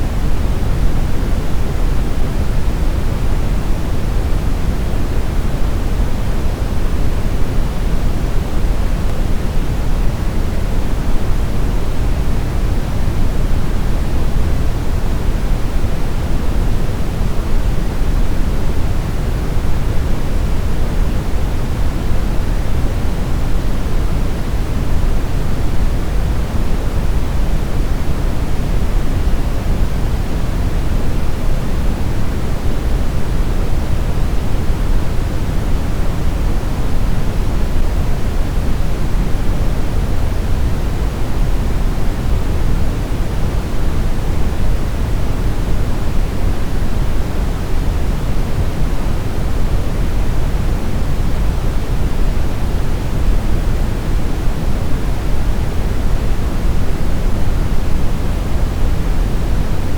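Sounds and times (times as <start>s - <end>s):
brown noise rumbling hiss: 0.0s - 59.9s.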